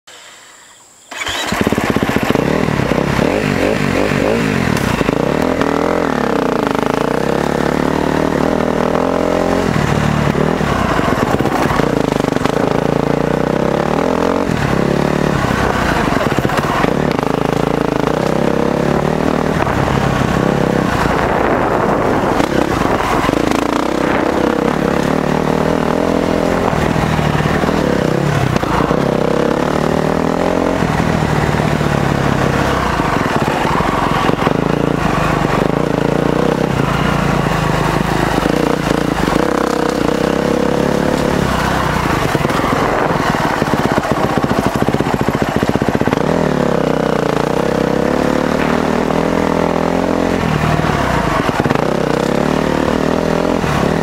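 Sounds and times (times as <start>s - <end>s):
motorcycle engine revving: 0.1s - 54.0s.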